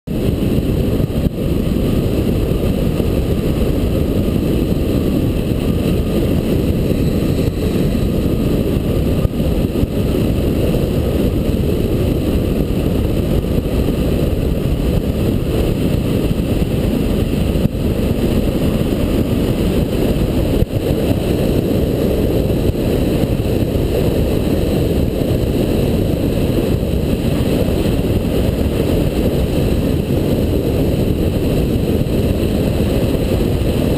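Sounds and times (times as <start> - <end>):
wind rushing over microphone: 0.1 - 33.9.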